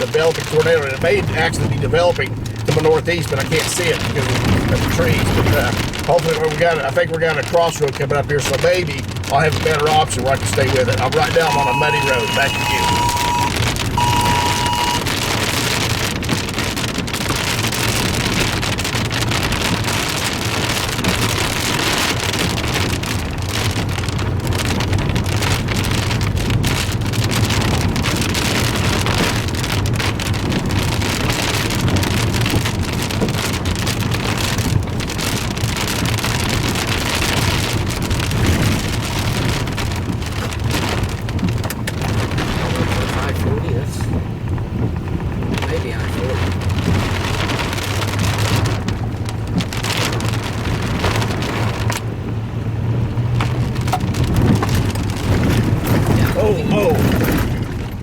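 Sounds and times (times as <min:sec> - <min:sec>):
rain pattering on a vehicle roof: 0:00.0 - 0:58.0
vehicle driving rumble: 0:00.0 - 0:58.0.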